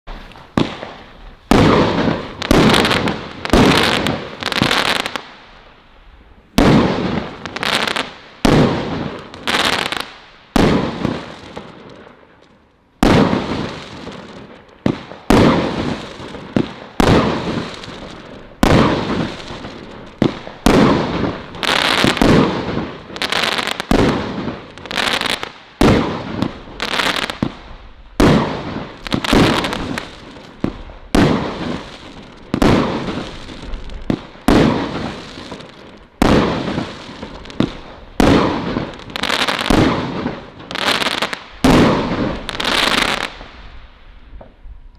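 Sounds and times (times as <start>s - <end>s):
firework bangs: 0.1s - 5.8s, 6.5s - 44.6s.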